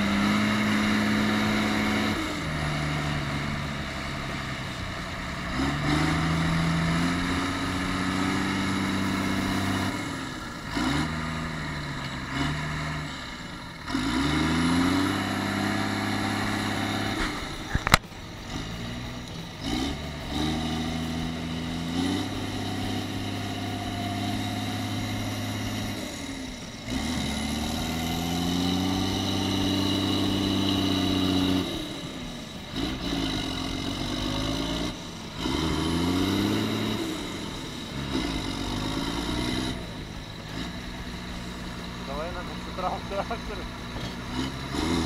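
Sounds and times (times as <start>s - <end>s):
tractor diesel engine revving: 0.0s - 45.0s.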